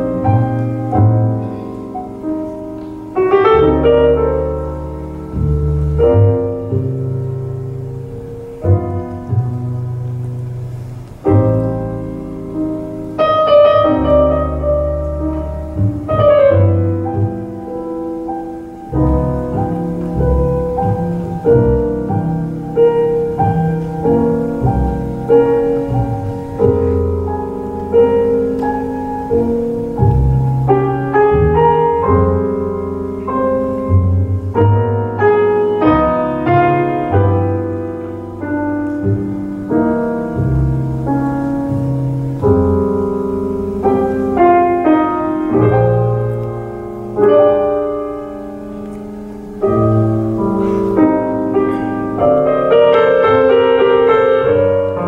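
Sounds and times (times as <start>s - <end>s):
grand piano: 0.0s - 55.0s
plucked double bass: 0.0s - 55.0s.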